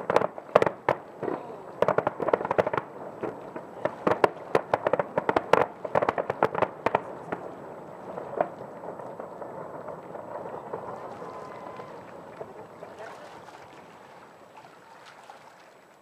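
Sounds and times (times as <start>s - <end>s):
fireworks bursting with sharp bangs: 0.0s - 14.5s.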